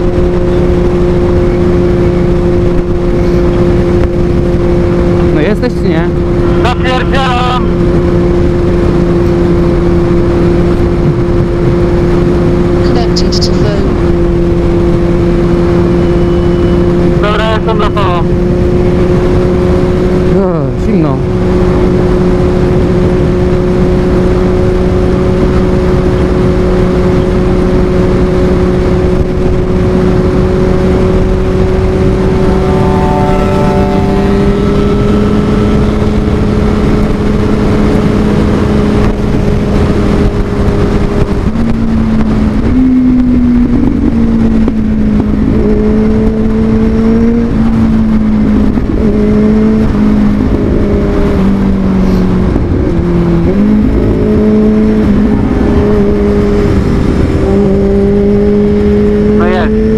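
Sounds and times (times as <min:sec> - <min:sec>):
loud wind rush: 0:00.0 - 0:59.9
small motorcycle engine: 0:00.0 - 0:59.9.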